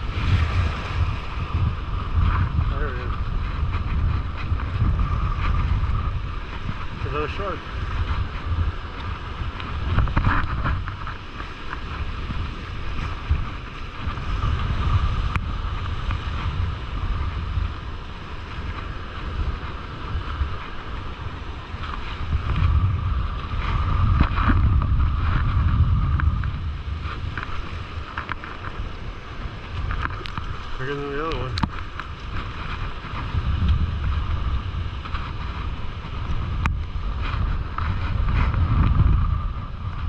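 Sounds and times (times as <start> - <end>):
surf washing in: 0.0 - 40.0
wind buffeting microphone: 0.0 - 40.0.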